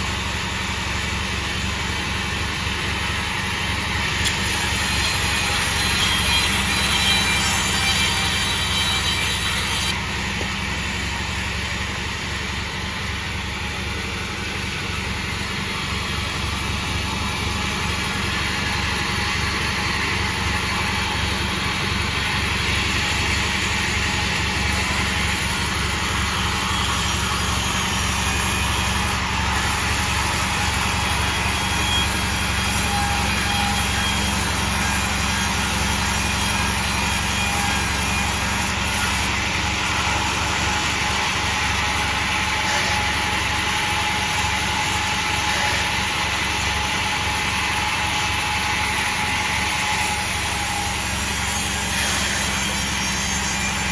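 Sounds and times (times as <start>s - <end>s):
sawmill machine droning: 0.0s - 53.9s.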